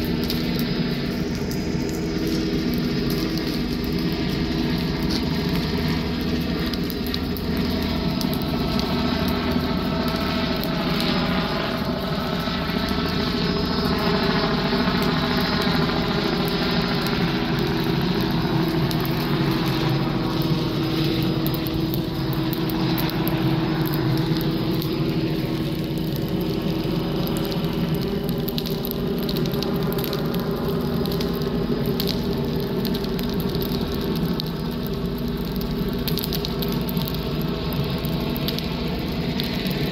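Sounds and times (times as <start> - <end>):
helicopter engine and rotor drone: 0.0 - 39.9
helicopter whine: 0.0 - 39.9.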